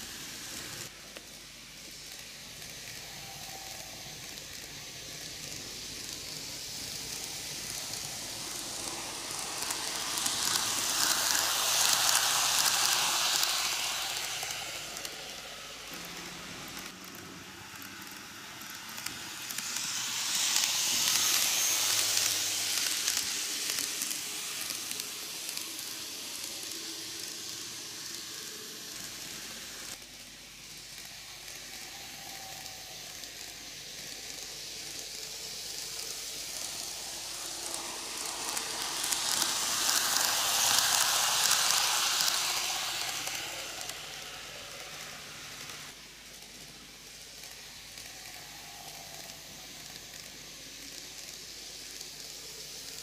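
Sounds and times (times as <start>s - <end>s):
model train wheels rattling on rails: 0.0s - 53.0s.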